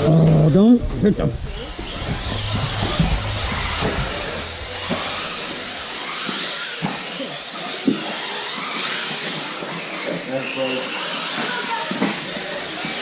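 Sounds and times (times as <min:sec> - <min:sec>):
rc car motors whining: 0:01.1 - 0:13.0.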